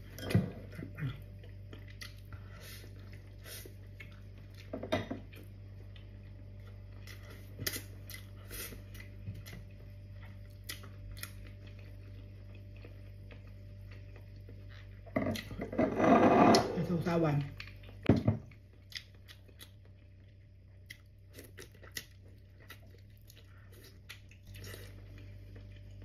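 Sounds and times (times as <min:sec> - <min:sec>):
steady low hum: 0:00.0 - 0:26.0
chewing food: 0:00.1 - 0:15.6, 0:17.3 - 0:26.0.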